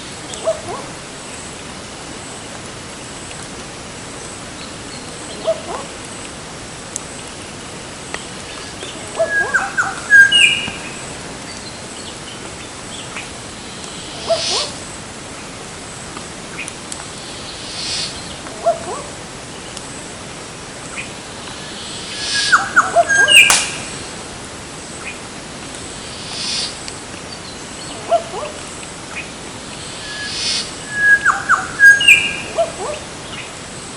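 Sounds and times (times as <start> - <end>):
wild birds calling: 0.0 - 2.2, 4.1 - 6.8, 7.4 - 33.9
steady background hiss: 0.0 - 33.9.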